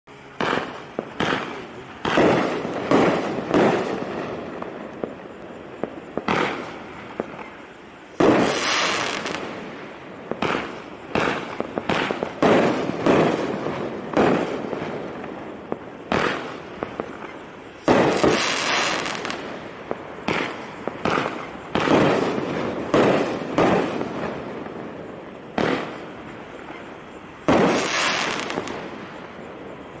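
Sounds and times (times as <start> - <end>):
firework bangs: 0.1 - 30.0
firework crackling fizz: 0.1 - 30.0.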